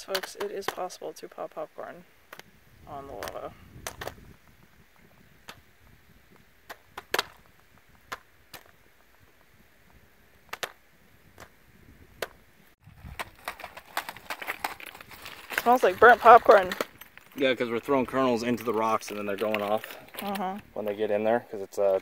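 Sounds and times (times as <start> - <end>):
lava rocks clattering: 0.0 - 11.6, 12.2 - 22.0.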